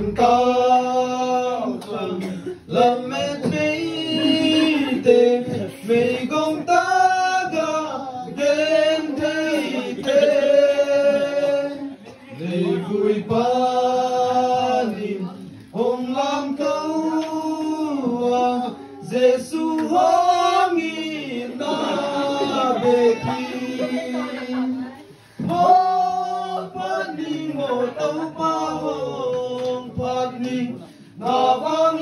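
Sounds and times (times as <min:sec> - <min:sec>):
group chanting a song: 0:00.0 - 0:32.0.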